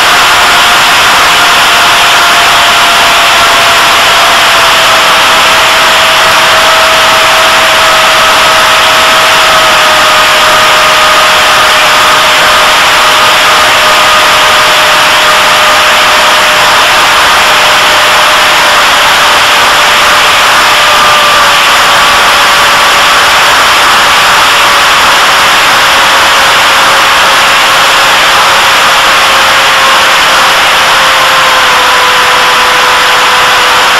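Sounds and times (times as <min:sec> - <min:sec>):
model airplane motor whine: 0:00.0 - 0:33.9.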